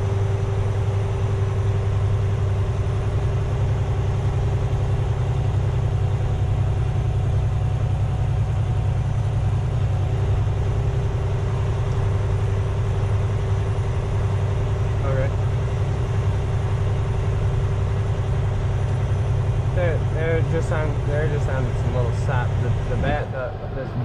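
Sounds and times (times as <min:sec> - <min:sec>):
constant hum: 0:00.0 - 0:24.0
diesel engine droning: 0:00.0 - 0:24.0.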